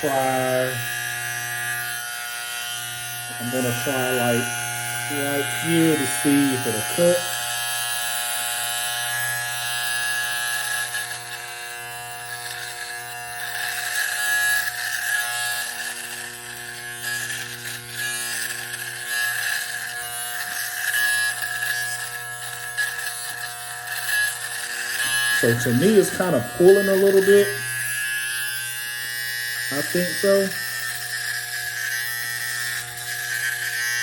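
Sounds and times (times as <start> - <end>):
hair trimmer buzzing: 0.0 - 34.0.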